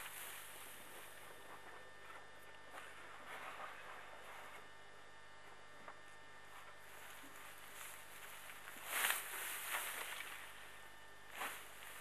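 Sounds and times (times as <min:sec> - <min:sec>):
faint steady hum with hiss: 0:00.0 - 0:12.0.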